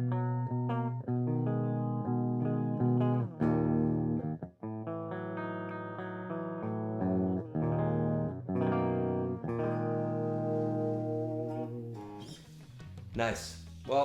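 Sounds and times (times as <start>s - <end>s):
electric guitar chords ringing: 0.0s - 12.7s.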